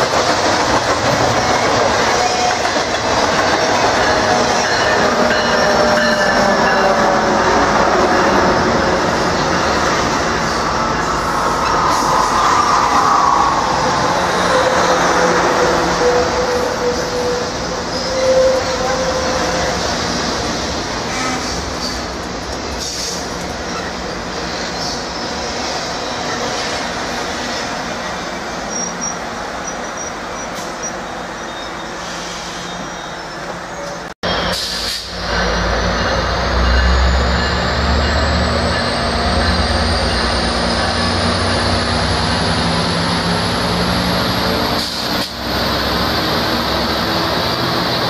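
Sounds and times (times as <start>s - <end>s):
train wheels rushing on rails: 0.0s - 48.0s.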